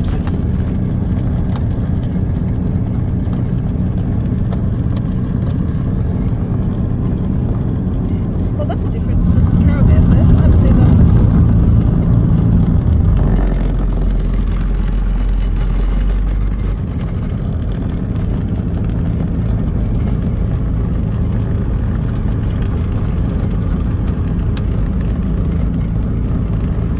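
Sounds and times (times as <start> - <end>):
light aircraft engine droning: 0.0 - 26.9.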